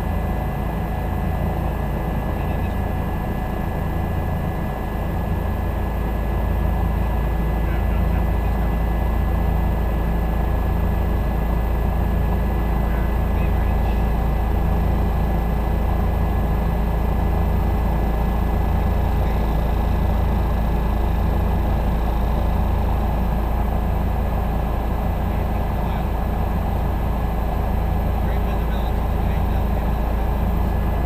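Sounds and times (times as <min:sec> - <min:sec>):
helicopter rotor and engine drone: 0:00.0 - 0:31.0.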